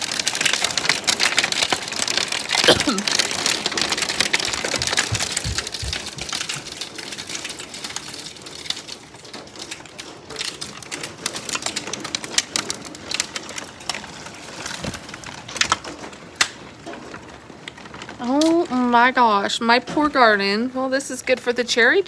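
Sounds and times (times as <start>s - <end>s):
hail and rain pelting down: 0.0s - 22.0s.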